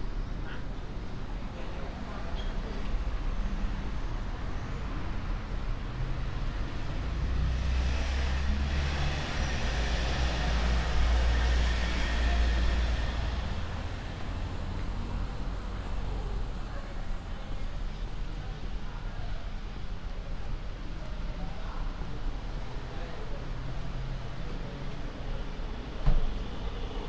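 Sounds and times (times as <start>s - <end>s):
low traffic hum: 0.0s - 27.0s.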